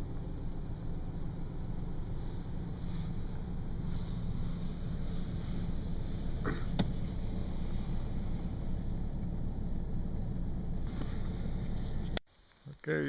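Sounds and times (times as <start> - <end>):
truck engine and road rumble: 0.0 - 12.3.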